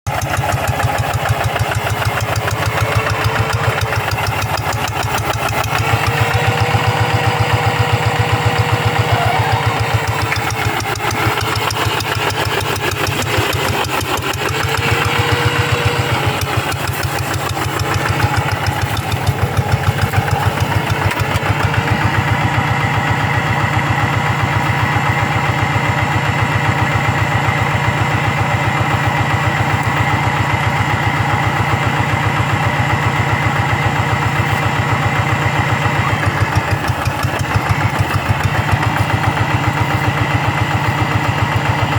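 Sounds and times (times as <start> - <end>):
hand tractor engine chugging: 0.0 - 41.9.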